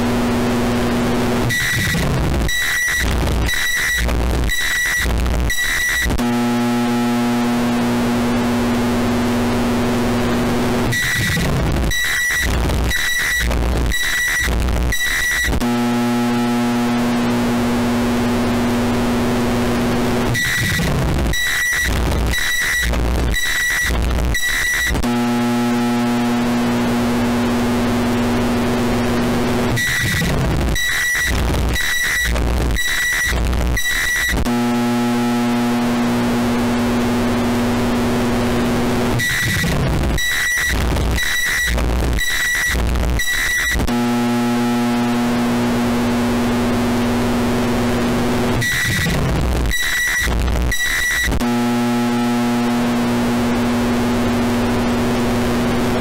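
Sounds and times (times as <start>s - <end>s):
distorted microwave hum: 0.0s - 33.8s, 34.4s - 43.2s, 43.8s - 50.7s, 51.3s - 56.0s.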